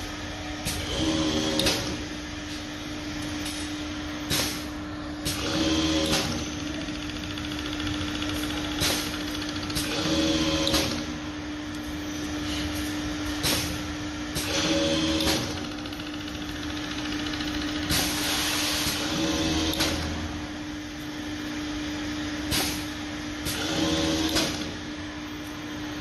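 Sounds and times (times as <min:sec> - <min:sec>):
machine motor hum: 0:00.0 - 0:26.0.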